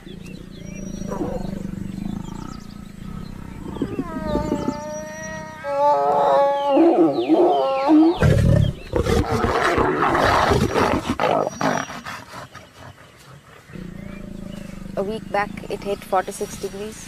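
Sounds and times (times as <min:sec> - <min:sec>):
lions snarling and growling: 0:00.0 - 0:17.0.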